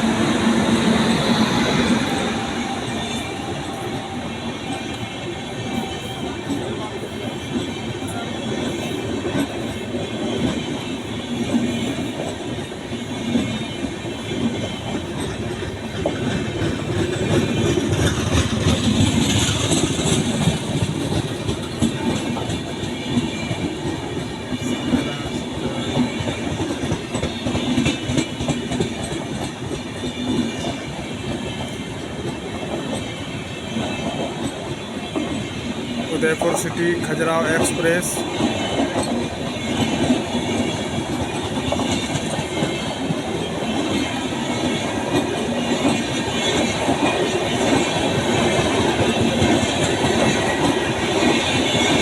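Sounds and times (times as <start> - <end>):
train wheels clattering over rail joints: 0.0 - 52.0.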